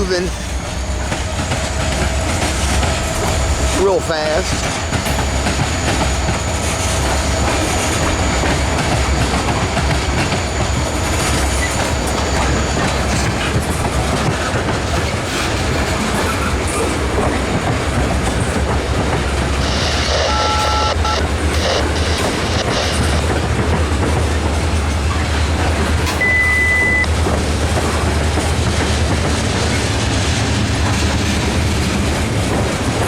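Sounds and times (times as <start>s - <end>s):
train wheels clattering over crossing: 0.0s - 19.7s, 21.3s - 33.0s
heavy train rumble: 0.0s - 33.0s.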